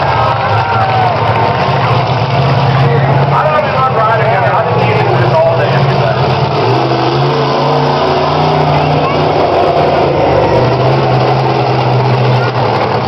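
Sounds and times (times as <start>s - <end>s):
monster truck engine running: 0.0s - 13.0s.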